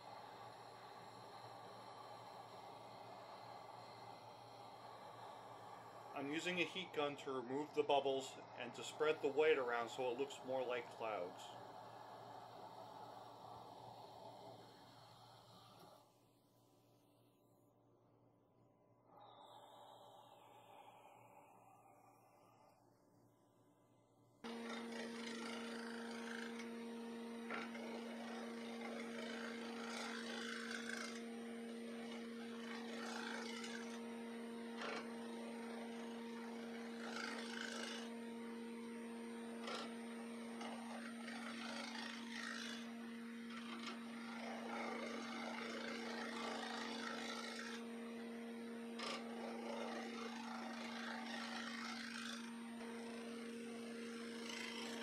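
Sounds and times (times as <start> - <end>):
gouge scraping spinning resin: 0.0 - 16.0, 24.5 - 55.0
lathe motor hum: 0.0 - 16.1, 24.4 - 55.0.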